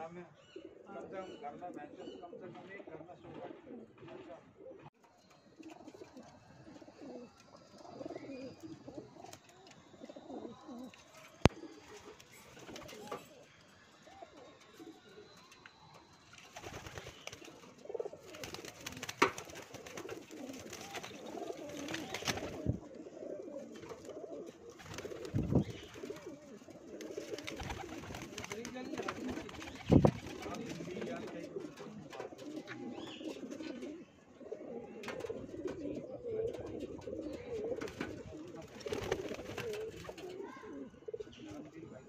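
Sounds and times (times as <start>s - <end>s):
pigeons cooing: 0.4s - 41.8s.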